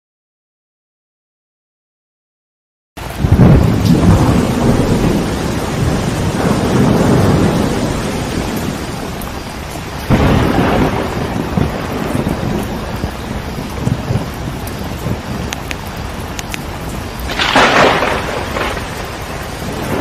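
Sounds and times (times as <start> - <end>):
rain falling: 3.0 - 20.0
thunder rumble: 3.0 - 20.0
sudden thunderclap: 3.1 - 20.0.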